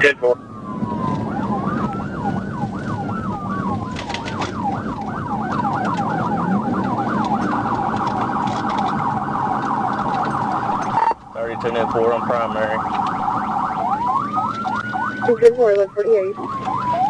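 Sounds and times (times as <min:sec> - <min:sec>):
police siren yelp: 0:00.0 - 0:17.0
rapid pulsing siren tone: 0:00.0 - 0:17.0
road and engine noise: 0:00.0 - 0:17.0
siren wail: 0:00.0 - 0:17.0.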